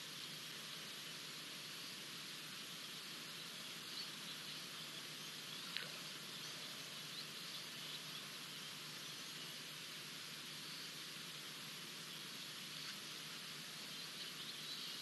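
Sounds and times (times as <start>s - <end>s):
bush ambience hiss: 0.0s - 15.0s.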